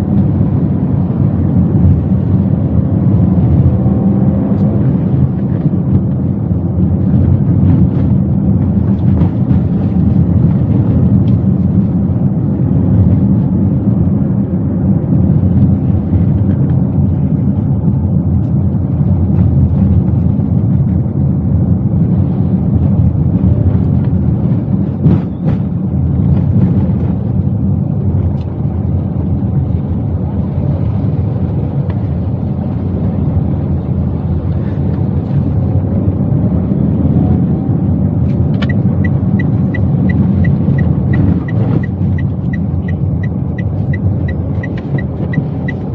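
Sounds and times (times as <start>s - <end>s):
car engine rumble in cabin: 0.0s - 45.9s
road noise: 0.0s - 45.9s.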